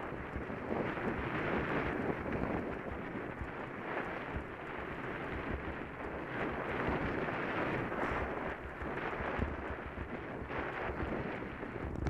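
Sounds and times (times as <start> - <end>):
bike rolling on tarmac: 0.0 - 12.0
wind buffeting microphone: 0.0 - 12.0.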